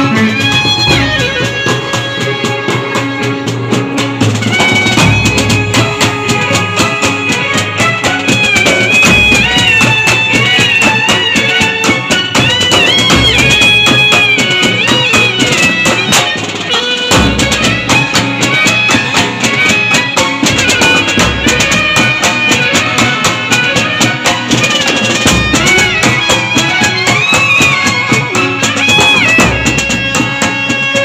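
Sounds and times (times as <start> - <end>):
fast side drum drumming: 0.0 - 31.0
saxophone and clarinet melody: 0.0 - 31.0.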